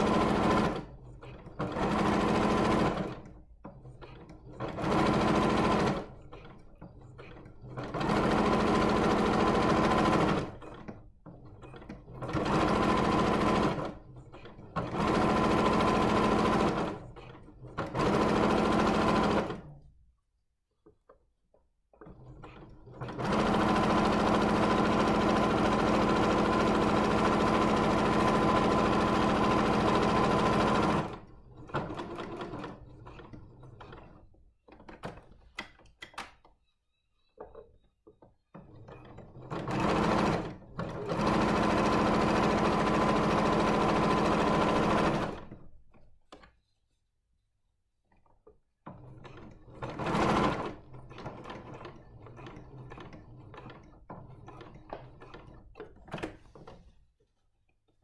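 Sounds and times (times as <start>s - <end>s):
sewing machine stitching: 0.0s - 19.9s, 21.9s - 36.2s, 37.2s - 46.6s, 48.1s - 57.1s.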